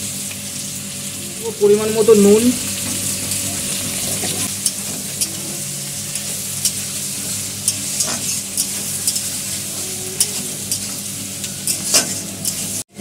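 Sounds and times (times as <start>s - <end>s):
onions and tomatoes sizzling in oil: 0.0s - 13.0s.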